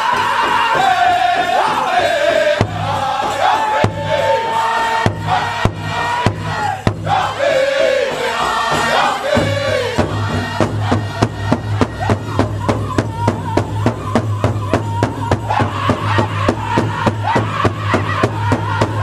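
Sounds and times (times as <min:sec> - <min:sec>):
chorus singing: 0:00.0 - 0:19.0
large hide drum beats: 0:00.0 - 0:19.0.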